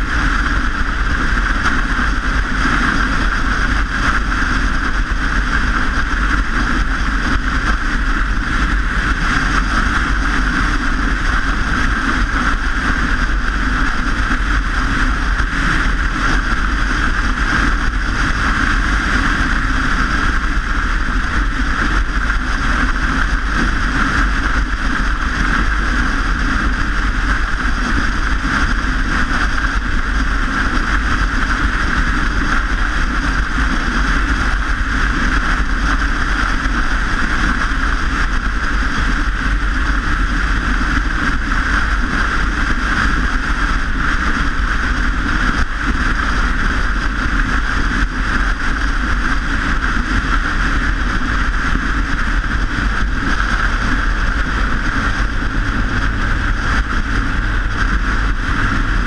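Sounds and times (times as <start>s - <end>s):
wind and road noise: 0.0s - 59.0s
wind rumble on microphone: 0.0s - 59.0s.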